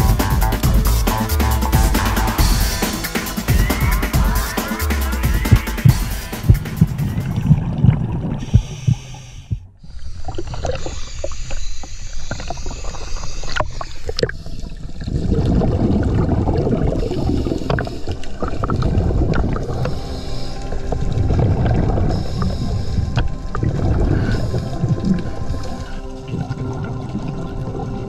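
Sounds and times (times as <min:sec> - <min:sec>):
crackling exhaust bubbles: 0:00.0 - 0:28.0
muffled rumble of water: 0:05.3 - 0:28.0.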